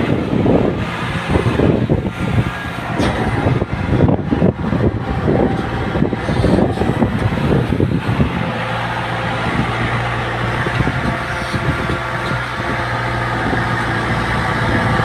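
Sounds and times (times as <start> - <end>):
diesel engine idling: 0.0 - 15.0
engine knocks and rattles: 0.0 - 15.0.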